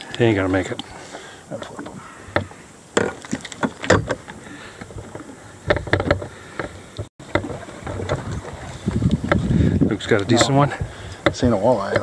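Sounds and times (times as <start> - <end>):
knocks and clicks in a small boat: 1.6 - 12.0.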